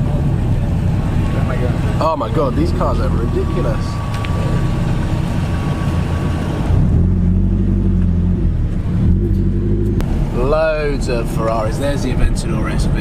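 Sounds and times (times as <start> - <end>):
car engine drone from inside cabin: 0.0 - 13.0.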